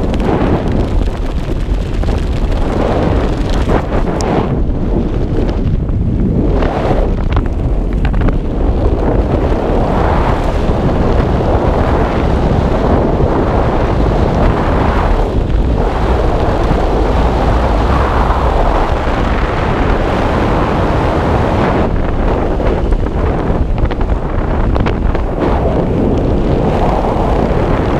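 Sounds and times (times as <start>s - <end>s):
wind rushing over microphone: 0.0s - 27.9s.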